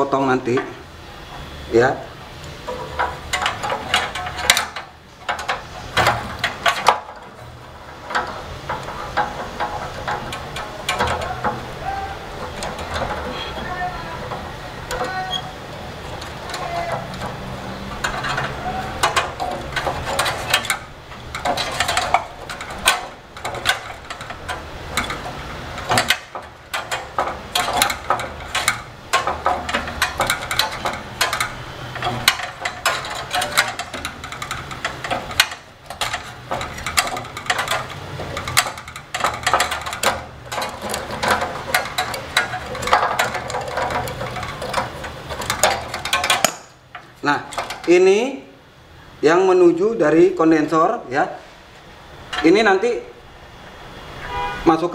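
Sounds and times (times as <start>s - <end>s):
tube cutter scraping copper pipe: 2.4s - 47.9s.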